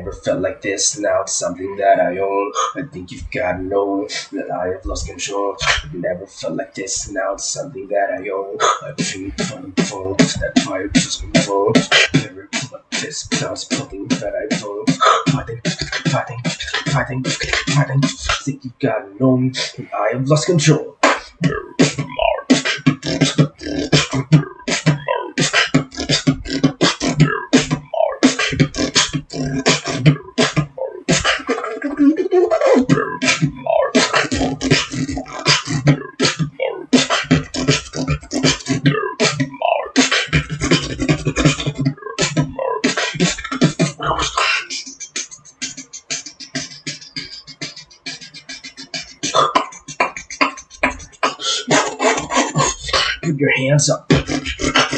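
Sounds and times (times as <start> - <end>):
beatboxing: 0.0 - 54.9.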